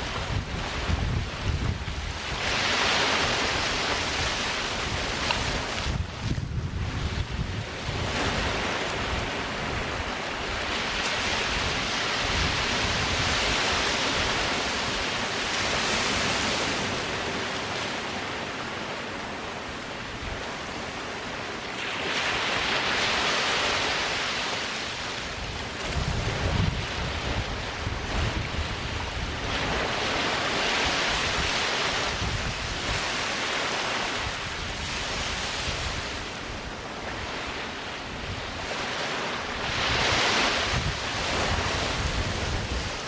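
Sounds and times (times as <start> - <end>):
wind rumble on microphone: 0.0 - 18.6, 20.0 - 43.0
sea waves breaking on beach: 0.0 - 43.0.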